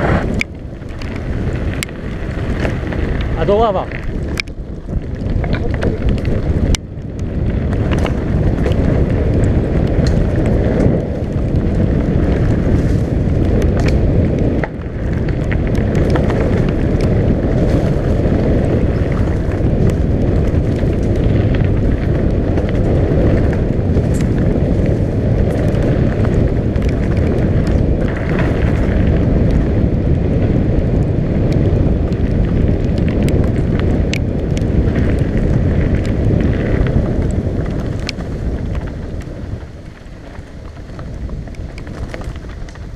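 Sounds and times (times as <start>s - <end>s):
tyres rumbling on dirt: 0.0s - 42.9s
wind buffeting microphone: 0.0s - 42.9s
bike knocks and rattles: 0.3s - 42.9s.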